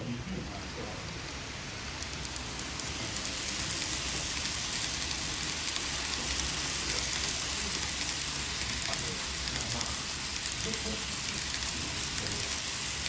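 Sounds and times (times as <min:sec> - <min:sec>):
model train wheels rolling: 0:00.4 - 0:13.0.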